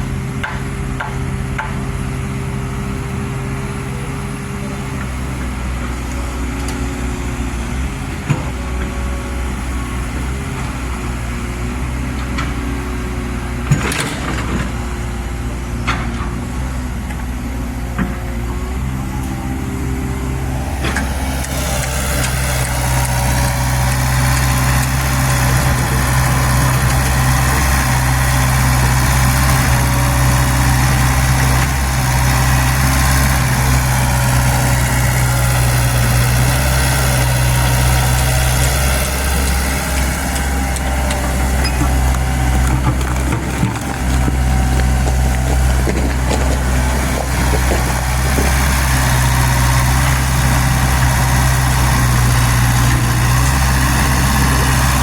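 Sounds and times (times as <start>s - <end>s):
excavator diesel engine humming: 0.0s - 55.0s.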